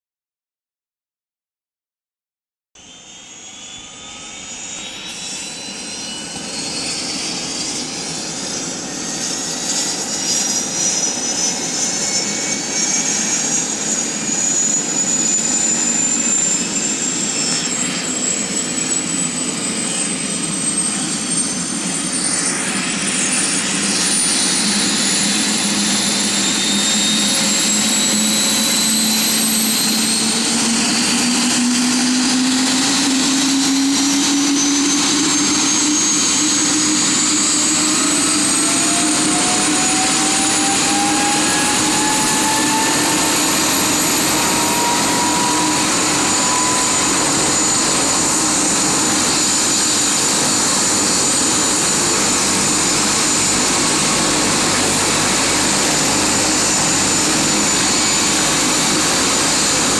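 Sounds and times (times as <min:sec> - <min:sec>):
helicopter engine rush: 0:02.8 - 0:59.9
helicopter turbine whine: 0:02.8 - 0:59.9
rotor hum rising: 0:02.9 - 0:59.9.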